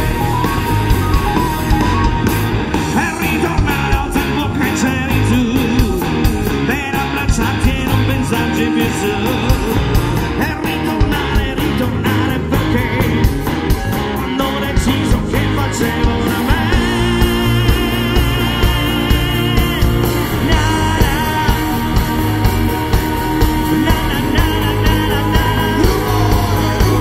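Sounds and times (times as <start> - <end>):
drum kit: 0.0 - 27.0
electric guitars: 0.0 - 27.0.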